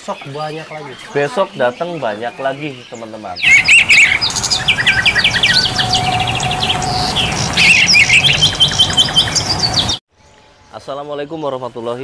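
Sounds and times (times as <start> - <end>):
songbirds singing: 0.0 - 11.6.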